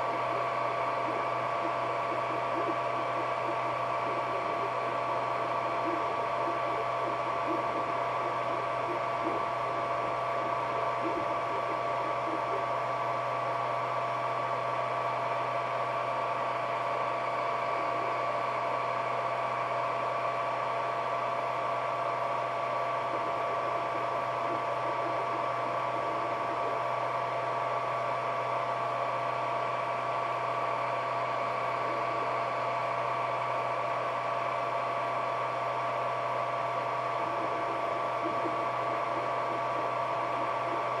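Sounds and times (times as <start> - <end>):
printer humming with high whine: 0.0 - 41.0.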